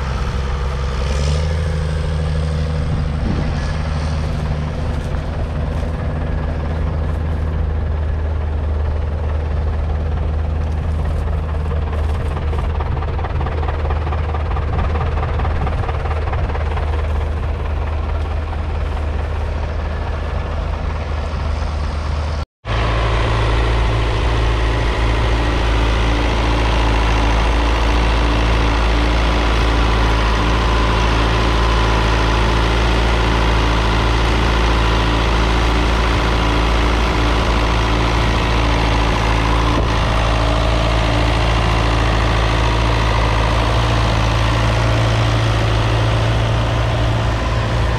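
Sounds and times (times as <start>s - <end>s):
diesel engine idling: 0.0s - 47.9s.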